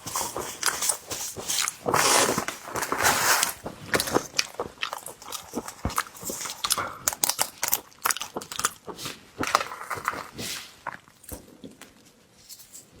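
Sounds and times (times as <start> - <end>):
crunching and chewing: 0.0 - 12.1.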